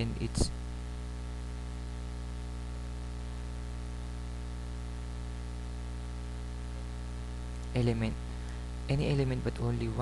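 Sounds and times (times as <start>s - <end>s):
constant hiss: 0.0s - 10.0s
electrical hum: 0.0s - 10.0s.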